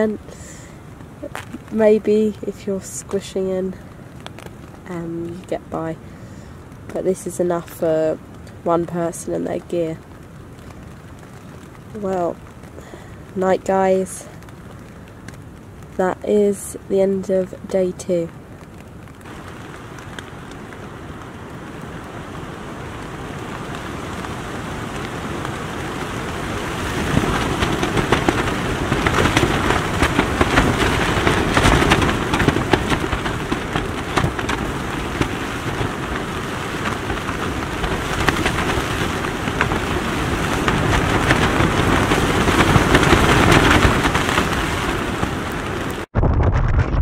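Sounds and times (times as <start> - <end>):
heavy rain on a tent: 0.0 - 46.1.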